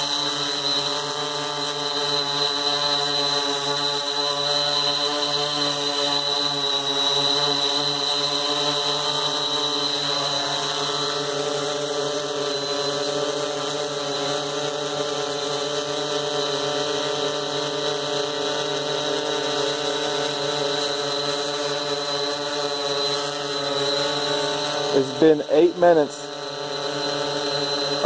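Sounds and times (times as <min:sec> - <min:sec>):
quadcopter hovering hum: 0:00.0 - 0:28.0.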